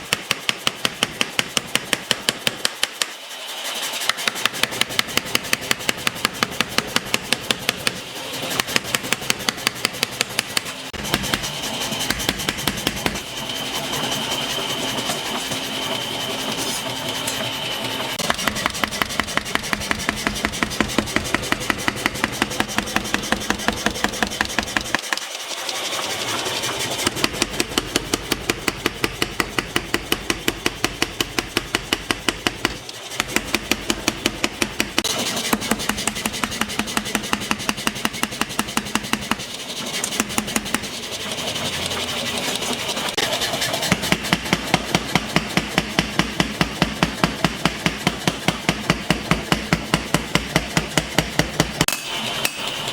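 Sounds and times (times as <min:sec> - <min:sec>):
forging hammer striking metal: 0:00.0 - 0:03.2, 0:04.3 - 0:14.3, 0:17.1 - 0:25.2, 0:27.0 - 0:40.9, 0:43.8 - 0:52.9.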